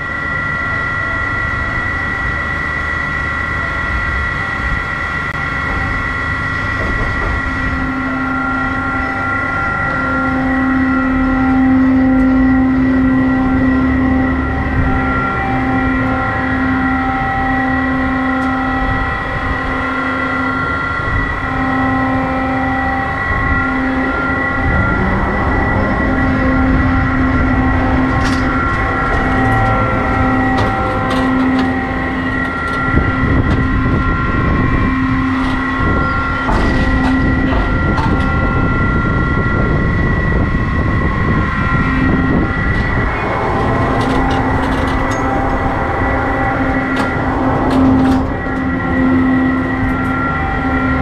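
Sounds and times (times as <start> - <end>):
intermittent lower hum: 0.0 - 51.0
low machinery rumble: 0.0 - 51.0
ride machinery high whine: 0.0 - 51.0.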